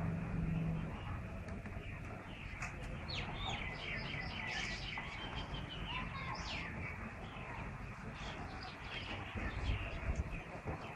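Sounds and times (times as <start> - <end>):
small birds chirping: 0.0 - 10.9
steady low rumble: 0.0 - 10.9.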